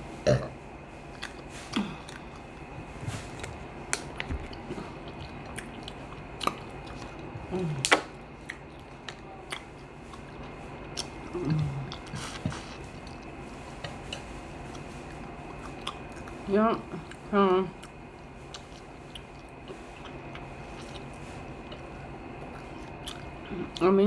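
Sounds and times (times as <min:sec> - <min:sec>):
chewing on chicken bone: 0:01.1 - 0:24.0.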